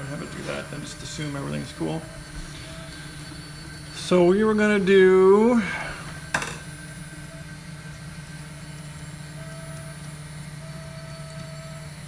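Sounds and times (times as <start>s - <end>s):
printer motor hum: 0.0s - 12.0s.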